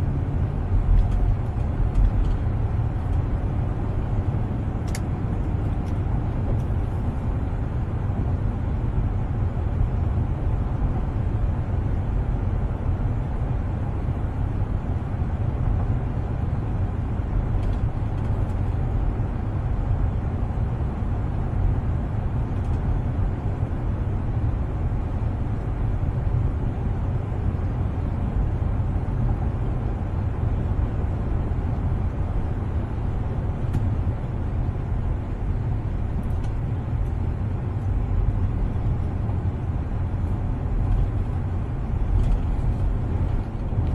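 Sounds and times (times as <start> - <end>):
road and engine rumble in car: 0.0 - 43.9.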